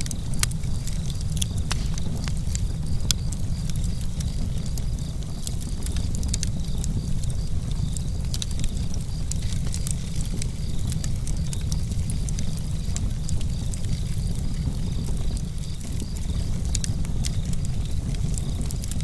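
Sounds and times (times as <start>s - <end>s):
campfire crackling and popping: 0.0s - 19.0s
crickets chirping: 0.0s - 19.0s
wind rumbling: 0.0s - 19.0s.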